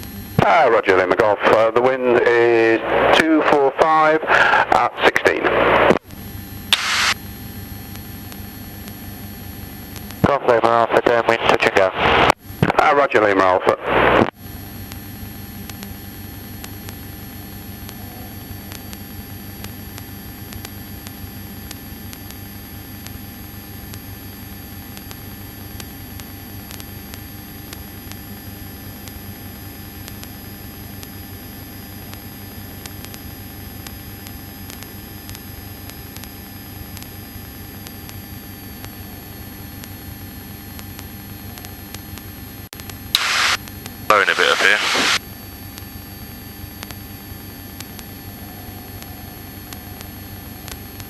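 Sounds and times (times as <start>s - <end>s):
faint high whine: 0.0s - 41.0s, 42.9s - 51.0s.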